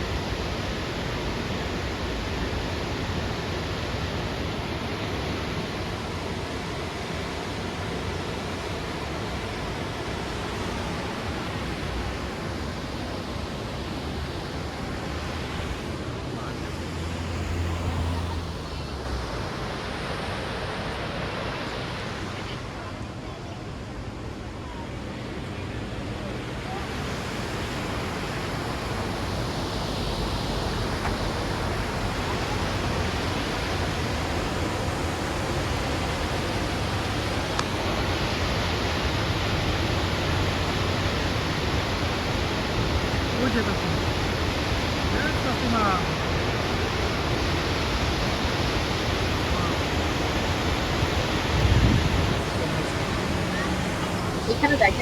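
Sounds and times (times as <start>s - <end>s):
waterfall rushing: 0.0s - 22.9s, 26.0s - 55.0s.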